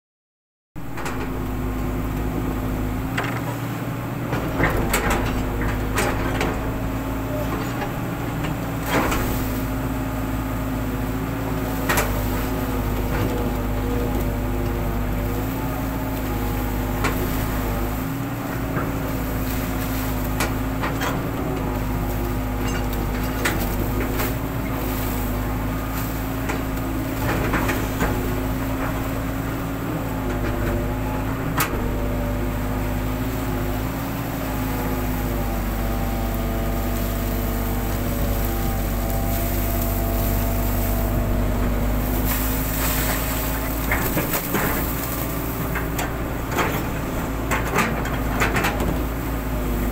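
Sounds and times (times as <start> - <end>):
excavator diesel engine running: 0.8 - 49.9.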